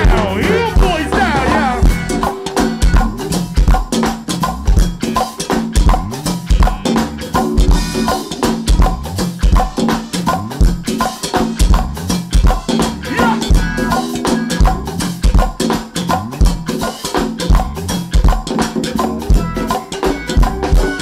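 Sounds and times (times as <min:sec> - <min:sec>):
live band playing: 0:00.0 - 0:21.0.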